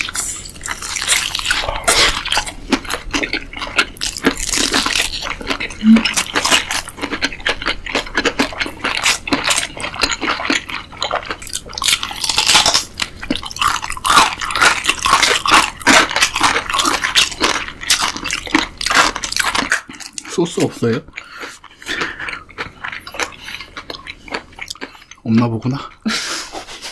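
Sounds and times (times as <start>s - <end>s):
chewing and crunching food: 0.0s - 26.8s.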